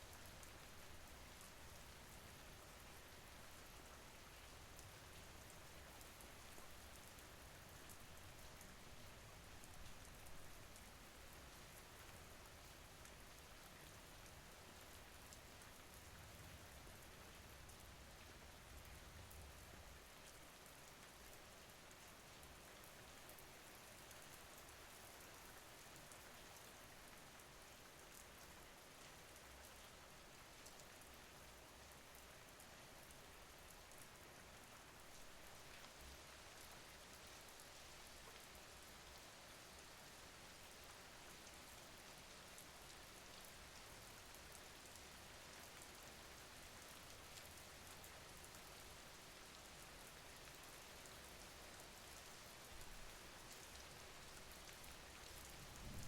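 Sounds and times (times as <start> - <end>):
faint steady rain hiss: 0.0 - 56.0.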